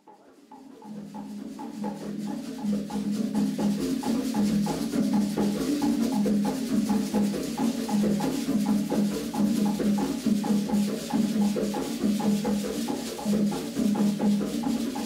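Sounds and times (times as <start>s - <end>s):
clacking rattling percussion: 0.0s - 15.0s
drums: 0.5s - 15.0s.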